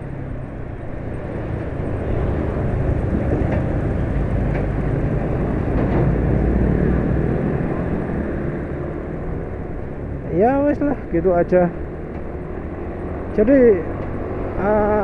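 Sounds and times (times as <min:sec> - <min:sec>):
motorcycle ride rumble: 0:00.0 - 0:15.0.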